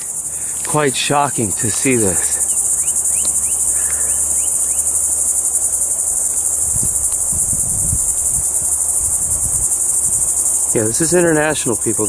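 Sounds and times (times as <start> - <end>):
chorus of insects: 0.0 - 12.0.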